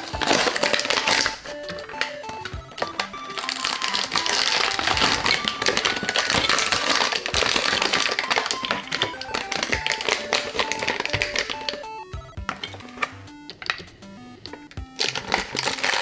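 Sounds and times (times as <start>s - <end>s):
chiptune background music: 0.0s - 16.0s
plastic packaging crackling: 0.0s - 16.0s.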